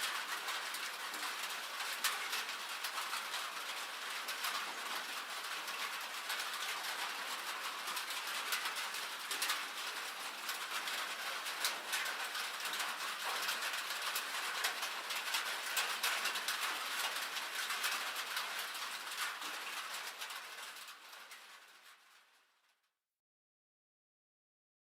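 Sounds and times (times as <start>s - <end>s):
hailstones ticking on sheet metal: 0.0s - 22.4s
rain on a metal roof: 0.0s - 22.8s.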